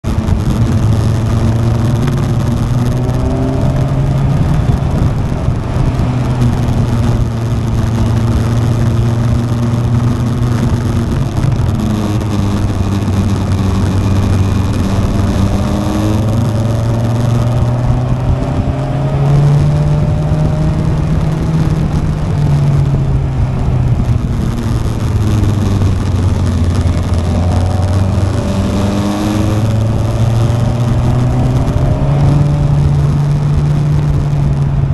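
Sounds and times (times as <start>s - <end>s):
motorcycle engine revving: 0.0s - 34.9s
wind and road noise: 0.0s - 34.9s.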